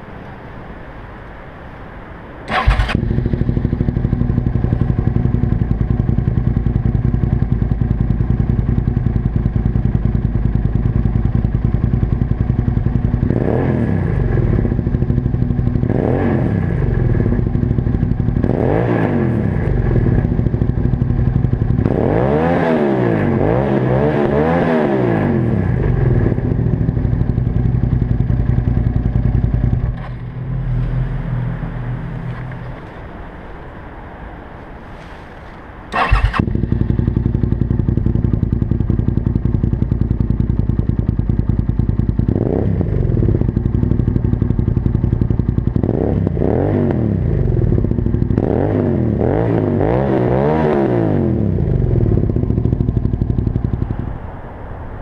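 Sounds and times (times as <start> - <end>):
motorcycle engine idling and revving: 2.5 - 34.8, 35.6 - 55.0.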